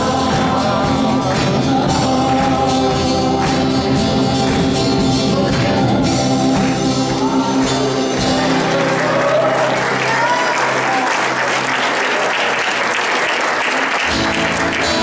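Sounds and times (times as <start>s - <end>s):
congregation applauding: 0.0s - 15.0s
worship band music: 0.0s - 15.0s.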